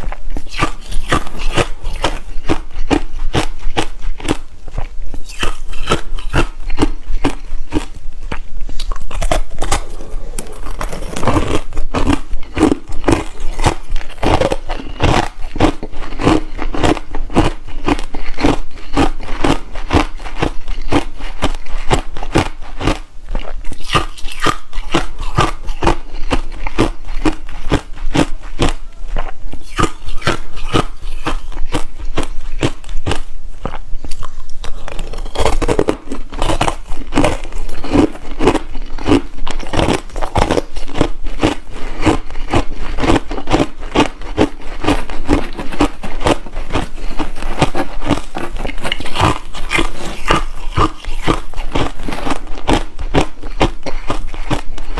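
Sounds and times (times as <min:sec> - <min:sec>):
chewing crunchy ice: 0:00.0 - 0:54.9.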